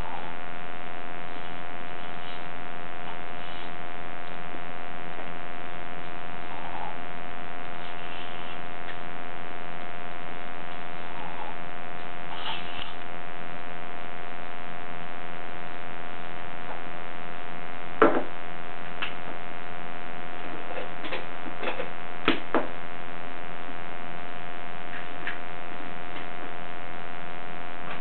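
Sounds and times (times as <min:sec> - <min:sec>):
mains hum: 0:00.0 - 0:28.0.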